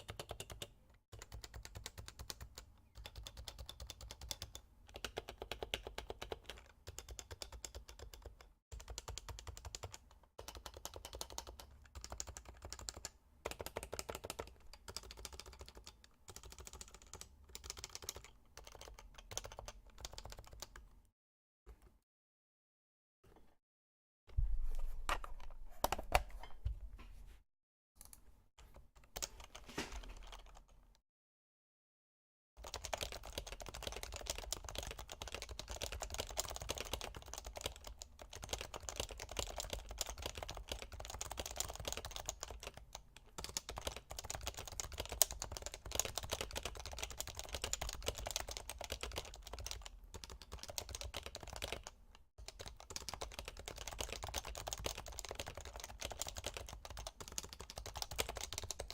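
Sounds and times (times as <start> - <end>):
typing on keyboard: 0.0 - 20.9, 28.0 - 30.8, 32.6 - 58.9.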